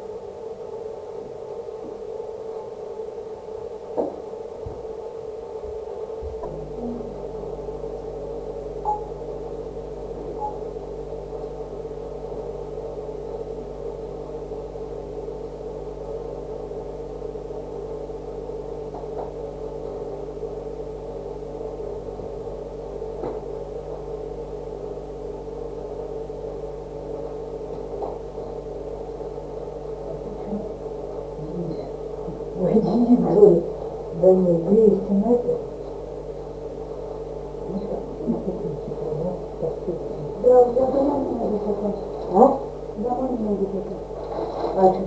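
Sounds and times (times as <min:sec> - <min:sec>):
electrical appliance hum: 0:00.0 - 0:45.0.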